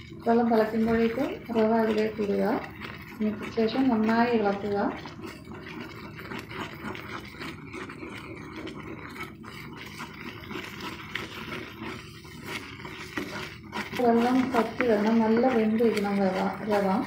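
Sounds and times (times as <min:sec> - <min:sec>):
wooden spatula scraping a pan: 0:00.0 - 0:17.0.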